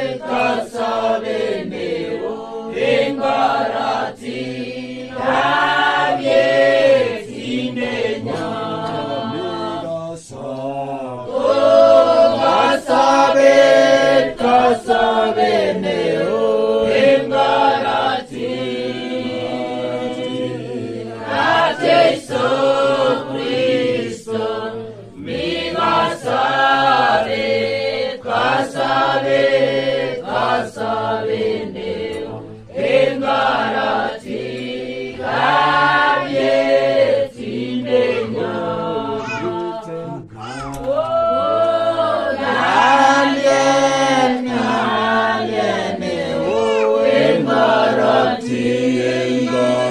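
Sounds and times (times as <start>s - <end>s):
group of voices singing gospel: 0.0s - 49.9s.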